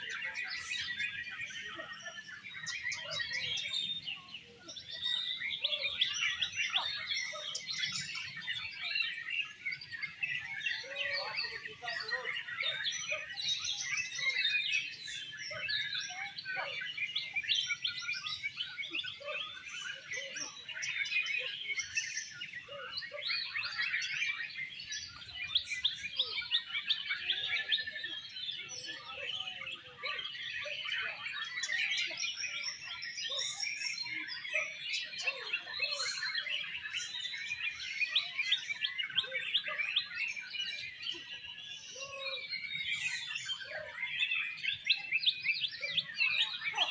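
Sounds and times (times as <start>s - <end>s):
songbirds chorus: 0.0s - 46.9s.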